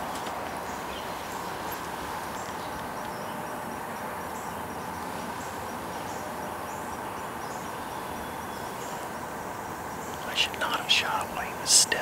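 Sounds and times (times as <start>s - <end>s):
steady hiss: 0.0s - 12.0s
faint high insect chirps: 0.4s - 12.0s.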